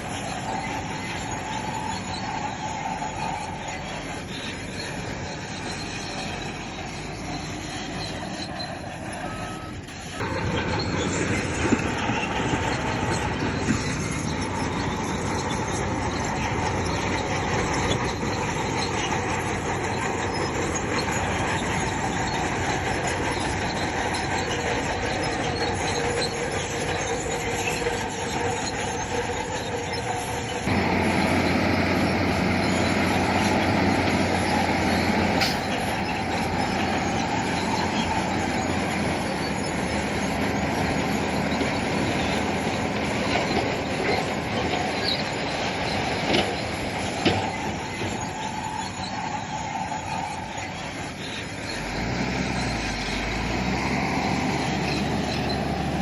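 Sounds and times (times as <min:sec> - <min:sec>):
diesel engine running: 0:00.0 - 0:56.0
steel tracks squealing and clanking: 0:00.0 - 0:56.0.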